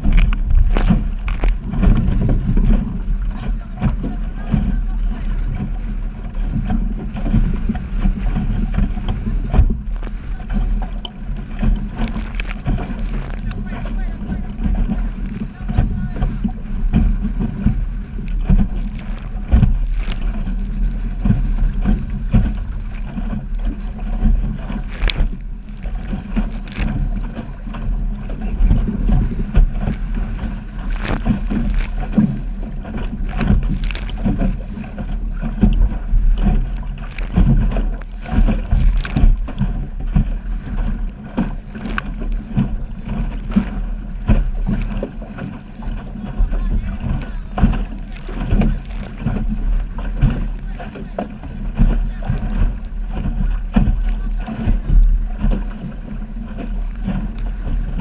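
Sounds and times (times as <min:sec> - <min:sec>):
boat knocking: 0:00.0 - 0:58.0
water slapping against hull: 0:00.0 - 0:58.0
wind buffeting microphone: 0:00.0 - 0:58.0.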